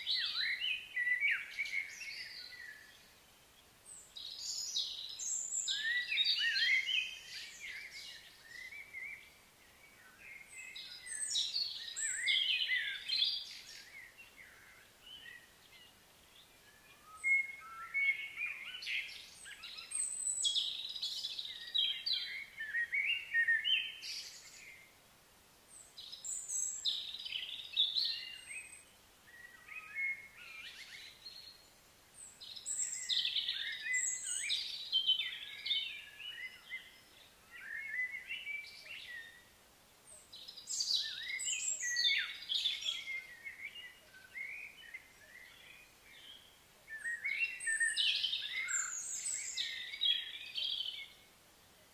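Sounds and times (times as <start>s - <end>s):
songbird chirping and trilling: 0.0s - 25.0s, 25.7s - 51.9s.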